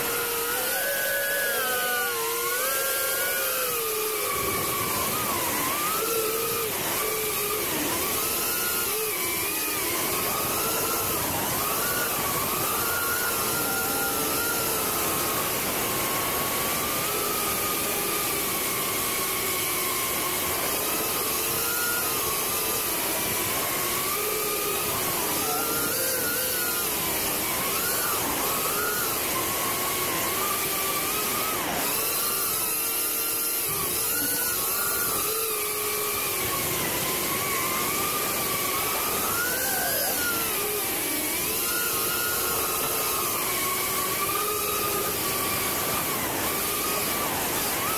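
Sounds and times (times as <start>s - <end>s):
drone motors and propellers whining: 0.0s - 47.9s.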